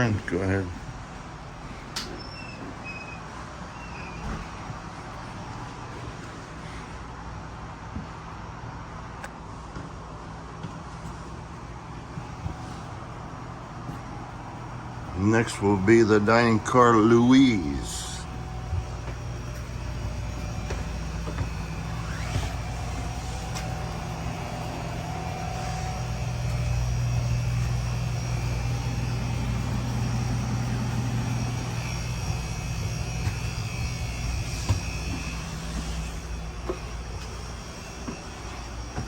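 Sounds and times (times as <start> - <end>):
rail car ventilation hum: 0.0 - 39.0.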